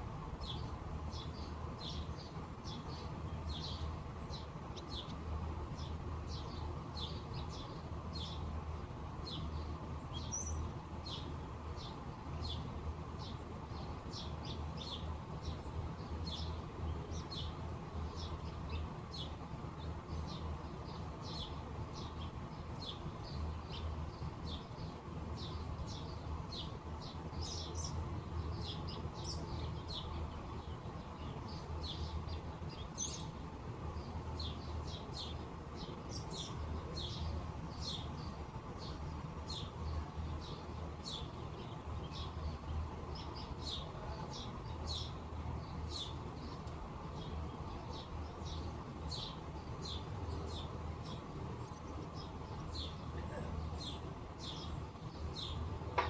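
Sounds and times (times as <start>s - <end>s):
low background rumble: 0.0s - 56.0s
small birds chirping: 0.0s - 56.0s.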